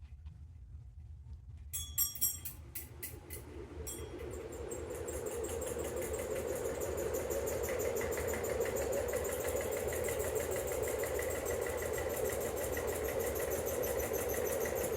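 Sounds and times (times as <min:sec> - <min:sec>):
ceiling fan running: 0:00.0 - 0:14.9.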